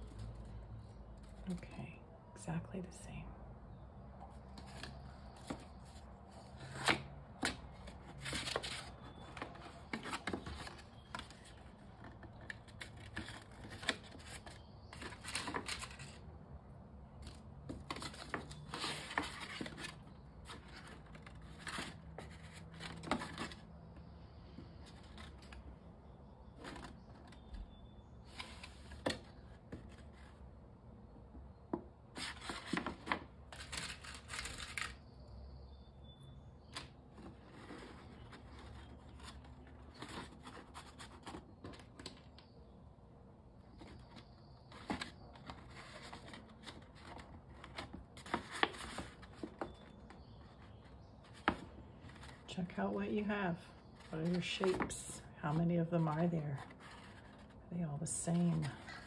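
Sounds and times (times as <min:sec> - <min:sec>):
paper plates rustling and crinkling: 0:04.4 - 0:16.2, 0:17.2 - 0:25.8, 0:26.5 - 0:30.4, 0:32.1 - 0:35.1, 0:36.6 - 0:42.4, 0:43.7 - 0:59.0.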